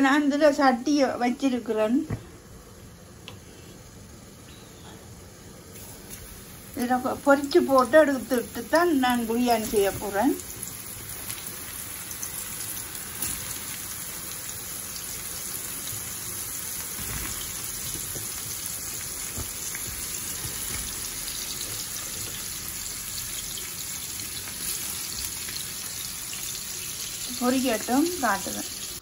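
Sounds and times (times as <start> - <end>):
mushrooms sizzling in oil: 5.5 - 29.0.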